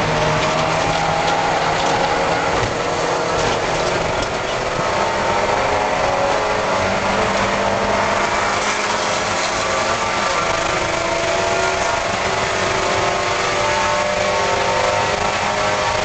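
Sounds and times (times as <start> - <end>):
car engine at racing revs: 0.0 - 16.0
road and wind noise: 0.0 - 16.0.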